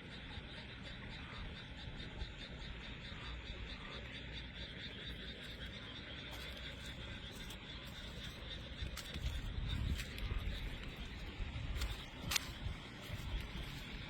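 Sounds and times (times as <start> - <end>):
frogs chorus calling: 0.0 - 14.0.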